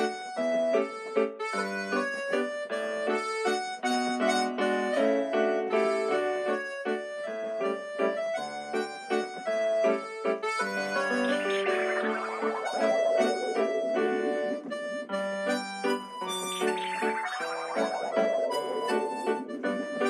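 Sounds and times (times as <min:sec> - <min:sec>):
reedy keyboard melody: 0:00.0 - 0:20.0.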